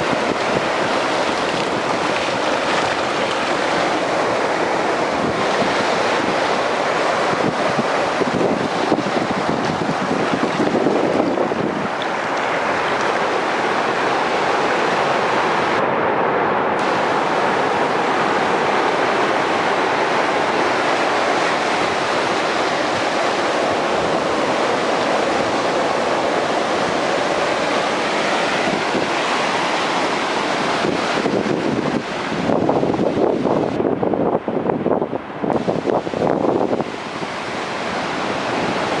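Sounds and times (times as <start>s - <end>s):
surf breaking: 0.0s - 15.8s, 16.8s - 33.8s.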